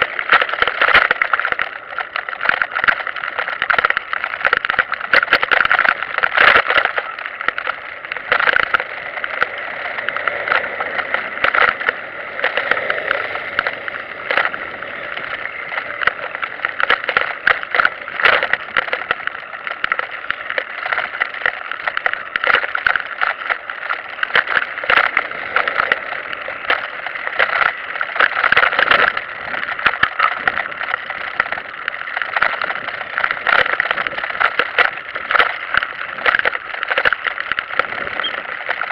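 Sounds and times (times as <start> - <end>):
trike rattling over stone paving: 0.0 - 38.9.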